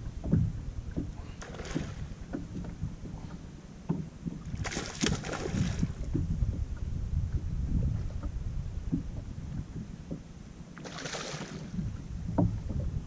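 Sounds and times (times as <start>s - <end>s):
water splashing against boat hull: 0.0s - 10.2s, 10.8s - 13.0s
wind rumbling on microphone: 0.0s - 13.0s.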